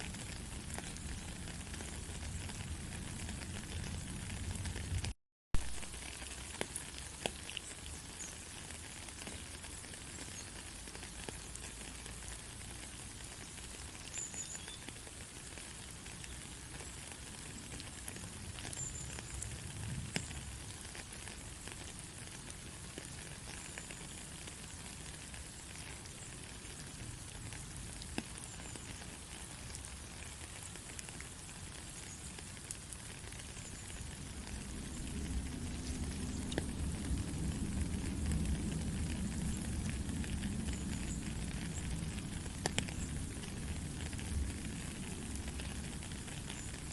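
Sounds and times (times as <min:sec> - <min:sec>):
rain pattering: 0:00.0 - 0:46.9.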